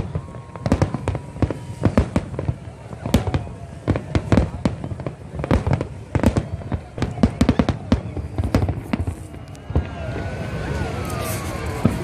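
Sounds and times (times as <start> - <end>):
fireworks bursting and cracking: 0.0 - 12.0.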